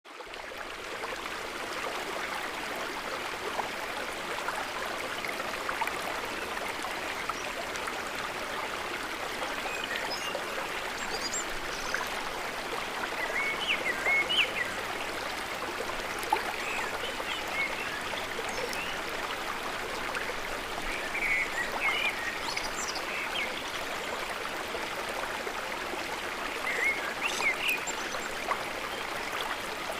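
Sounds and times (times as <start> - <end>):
flowing water rushing: 0.1 - 29.9.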